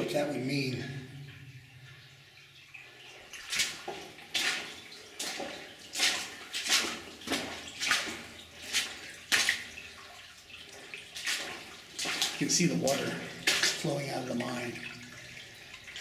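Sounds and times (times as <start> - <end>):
boots splashing through shallow water: 2.9 - 16.0.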